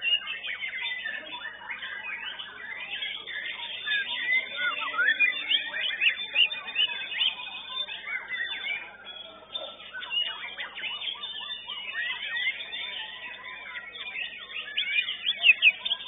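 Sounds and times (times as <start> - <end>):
birds singing whistled phrases: 0.0 - 16.0.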